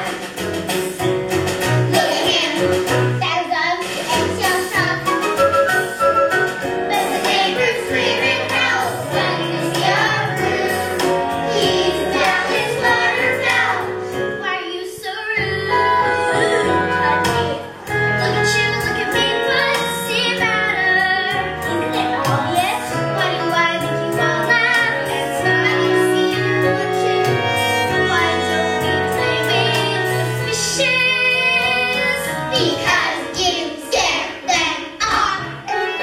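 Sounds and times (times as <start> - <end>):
recorded backing track: 0.0 - 36.0
young voices singing: 1.9 - 5.1, 6.9 - 36.0.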